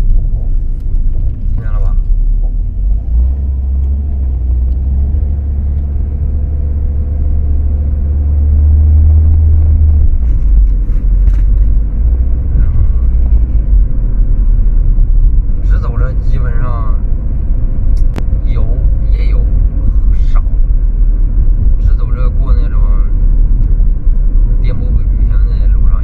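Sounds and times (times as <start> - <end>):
car engine rumble while driving: 0.0 - 26.0.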